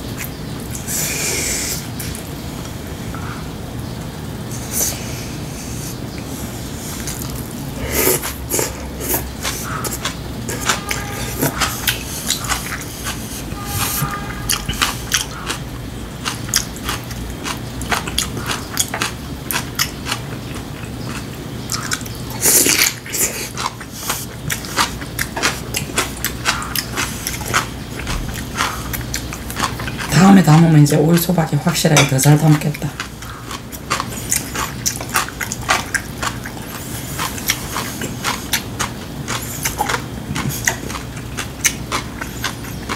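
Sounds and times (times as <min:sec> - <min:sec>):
man chewing and crunching food: 0:00.0 - 0:42.9.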